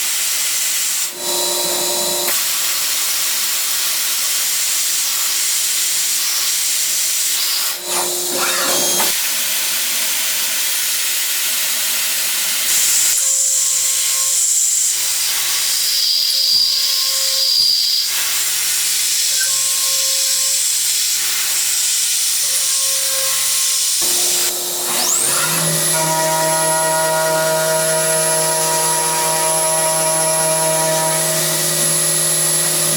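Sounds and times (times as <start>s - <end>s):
metal machining hiss: 0.1s - 32.9s.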